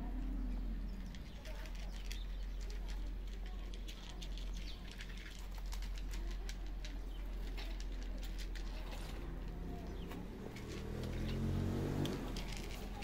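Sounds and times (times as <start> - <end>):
cats crunching dry kibble: 0.2 - 13.0.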